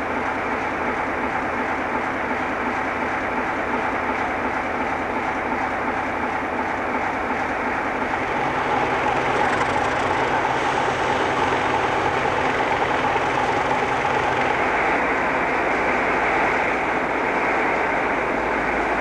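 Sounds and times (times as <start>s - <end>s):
diesel locomotive engines running: 0.0s - 19.0s
low engine hum: 0.0s - 19.0s.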